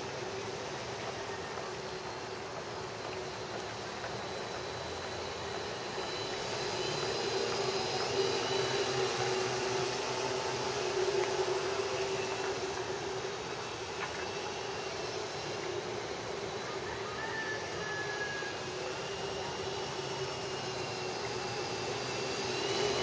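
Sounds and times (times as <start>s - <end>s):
drone motors buzzing: 0.0s - 23.0s.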